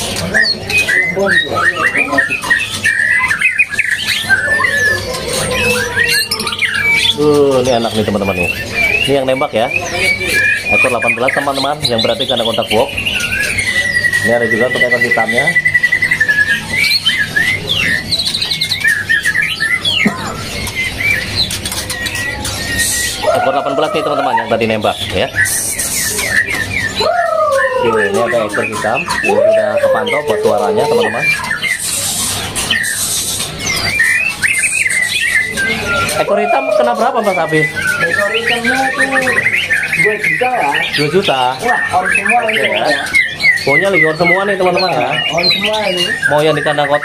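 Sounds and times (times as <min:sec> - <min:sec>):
songbirds singing: 0:00.0 - 0:47.0.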